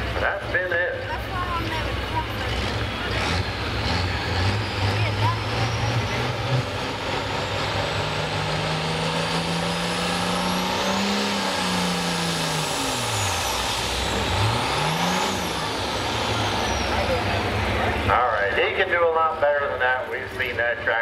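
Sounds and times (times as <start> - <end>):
high turbo whine: 0.0 - 21.0
tractor diesel engine at full throttle: 0.0 - 21.0.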